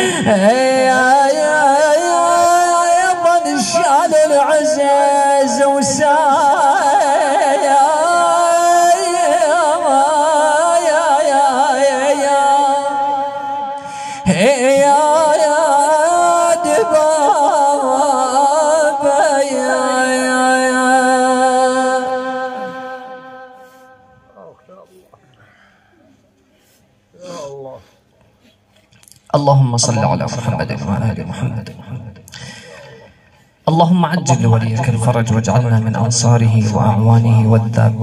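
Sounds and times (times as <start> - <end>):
man chanting into a microphone: 0.0 - 25.2, 29.3 - 38.0.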